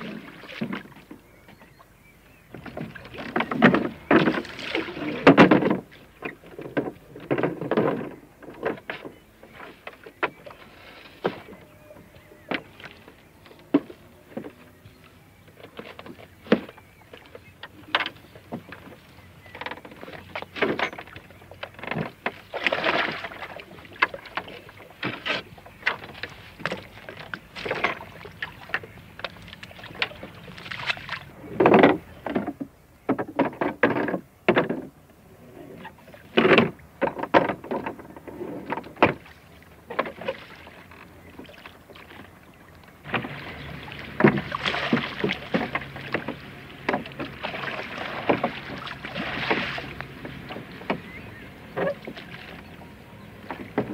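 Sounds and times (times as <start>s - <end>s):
gear knocking in wooden boat: 2.5s - 10.6s, 15.6s - 35.0s, 36.3s - 41.6s, 42.9s - 53.9s.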